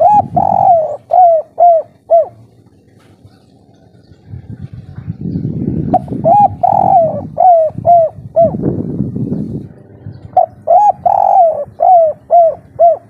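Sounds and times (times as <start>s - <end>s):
dove cooing: 0.0s - 4.9s, 5.8s - 8.7s, 9.6s - 13.0s
low rough rumble: 0.0s - 13.0s.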